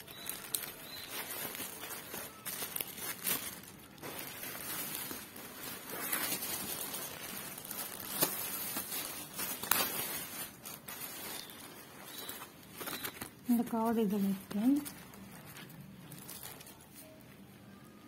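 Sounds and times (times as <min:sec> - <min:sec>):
plastic bag crinkling: 0:00.0 - 0:17.4.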